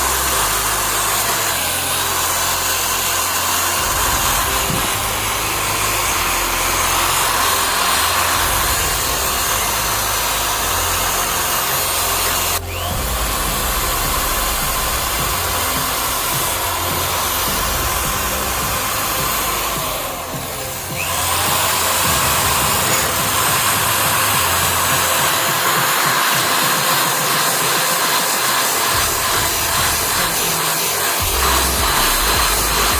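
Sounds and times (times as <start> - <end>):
power tool grinding steel: 0.0 - 32.9.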